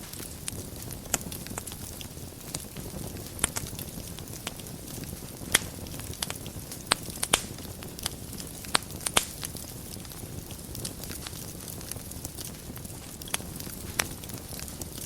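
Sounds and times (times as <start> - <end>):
fire crackling and popping: 0.0 - 15.0
low rumble of fire: 0.0 - 15.0.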